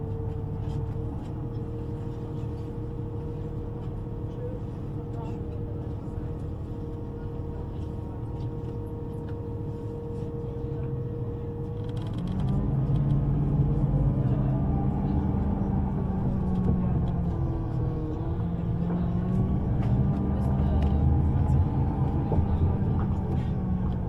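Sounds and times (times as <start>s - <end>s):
electric train hum: 0.0s - 24.0s.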